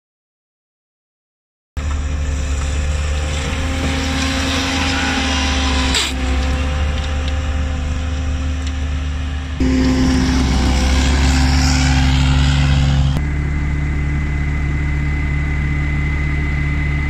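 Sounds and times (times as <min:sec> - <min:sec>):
loader engine hum with whine: 0:01.8 - 0:17.0.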